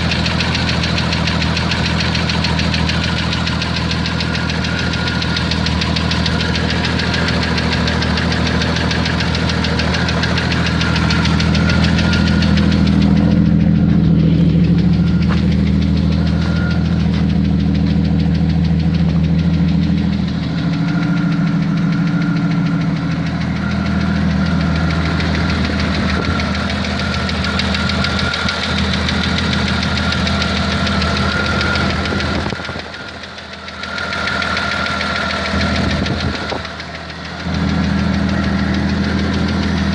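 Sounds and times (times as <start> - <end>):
engine running with rapid knock: 0.0 - 39.9.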